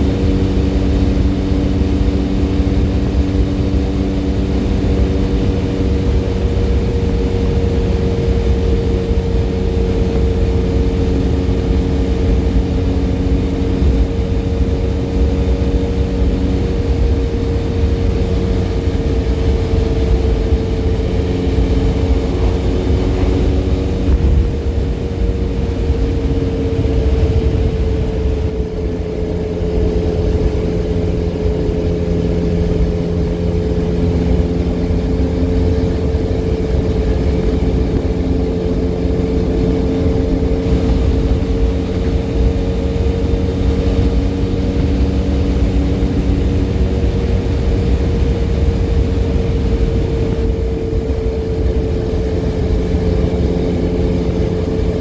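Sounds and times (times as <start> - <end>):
motorcycle engine cruising: 0.0 - 55.0
wind rumble on microphone: 0.0 - 55.0.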